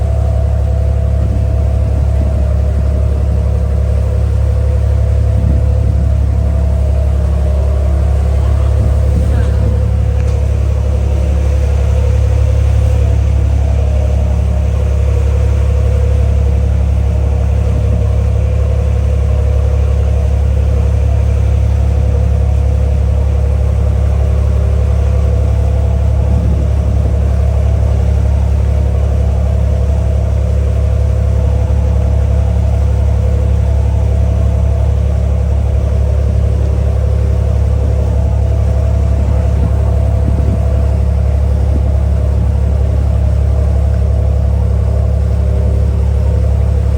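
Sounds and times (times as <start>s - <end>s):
ferry engine drone: 0.0s - 46.9s
steady hum: 0.0s - 46.9s.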